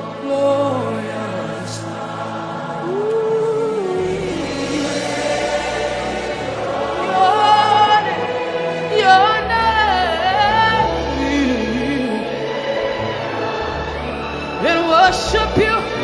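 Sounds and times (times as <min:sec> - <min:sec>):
backing chords and bass: 0:00.7 - 0:16.0.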